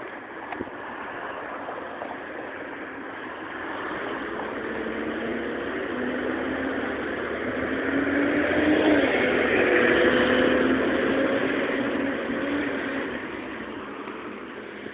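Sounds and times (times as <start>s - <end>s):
bus engine running: 0.0s - 14.9s.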